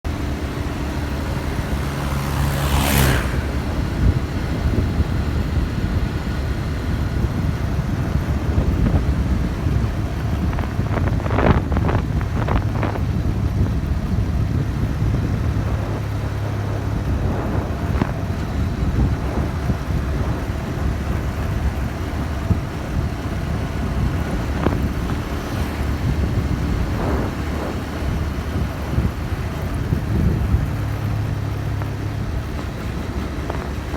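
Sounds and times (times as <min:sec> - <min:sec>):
motorcycle engine running: 0:00.0 - 0:33.9
wind rumble on microphone: 0:00.1 - 0:33.9.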